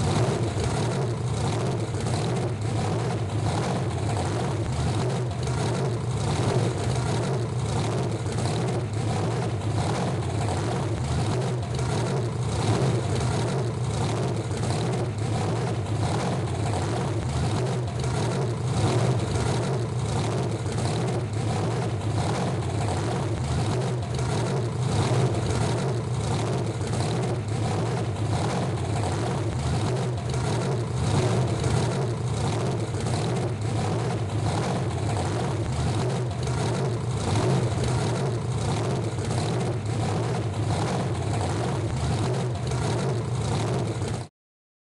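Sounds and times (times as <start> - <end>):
monster truck engine running: 0.0 - 44.3.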